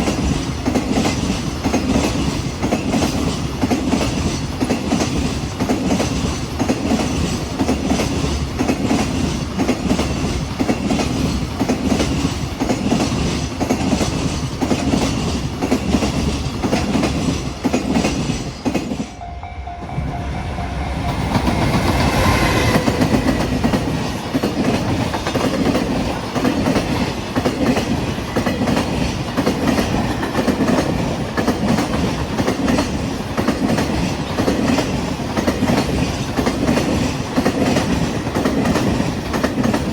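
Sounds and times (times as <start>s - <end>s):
train wheels clattering over rails: 0.0s - 19.2s, 21.1s - 39.9s.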